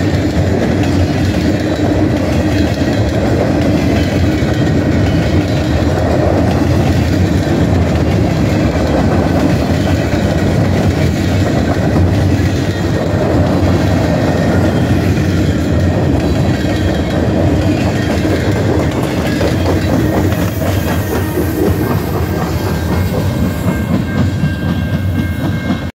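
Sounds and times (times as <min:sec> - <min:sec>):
steel wheels clattering over rail joints: 0:00.0 - 0:25.9.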